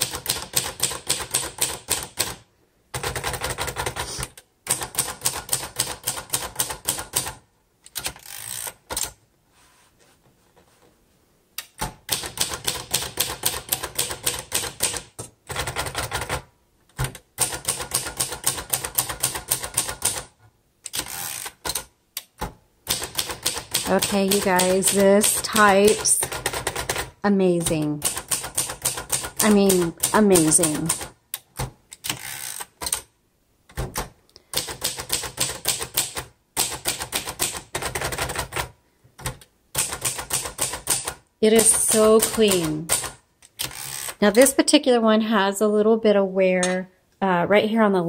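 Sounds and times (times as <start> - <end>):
manual typewriter keys clacking: 0.0 - 9.2, 11.6 - 33.1, 33.7 - 44.6.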